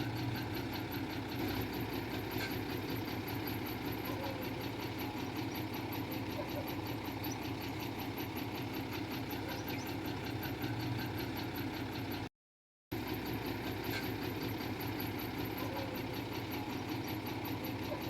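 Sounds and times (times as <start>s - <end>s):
heavy diesel engine idling: 0.0s - 12.3s, 12.9s - 18.0s.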